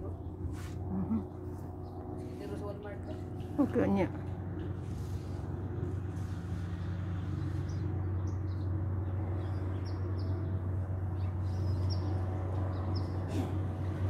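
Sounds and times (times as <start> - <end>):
low hum: 0.0 - 14.0
small birds chirping: 0.0 - 14.0.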